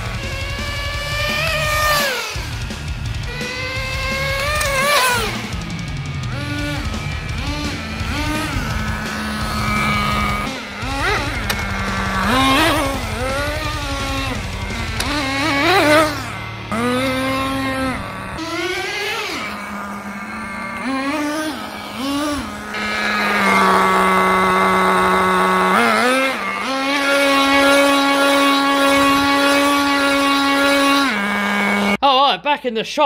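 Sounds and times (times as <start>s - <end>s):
model car engine revving: 0.0s - 32.0s.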